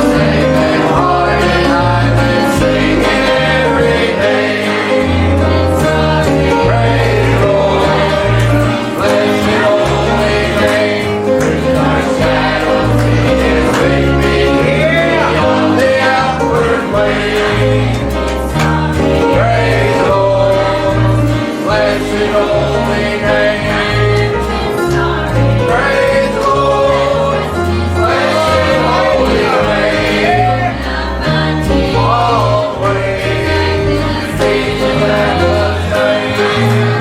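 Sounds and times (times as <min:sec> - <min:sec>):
choir singing a hymn: 0:00.0 - 0:37.0
instrumental accompaniment: 0:00.0 - 0:37.0.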